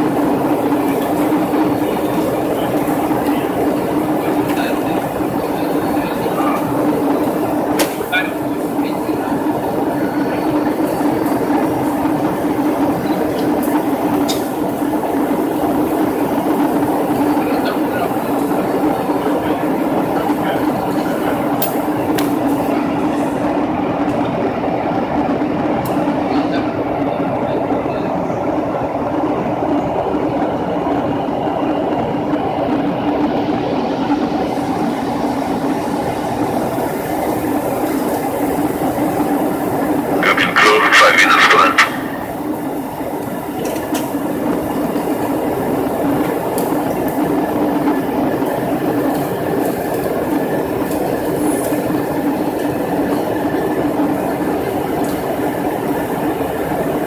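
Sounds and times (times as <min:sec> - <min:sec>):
airliner cabin roar: 0:00.0 - 0:57.0.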